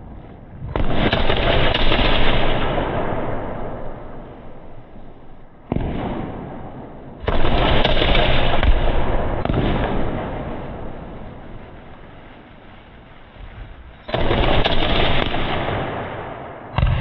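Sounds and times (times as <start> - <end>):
firework shells bursting: 0.6 - 17.0.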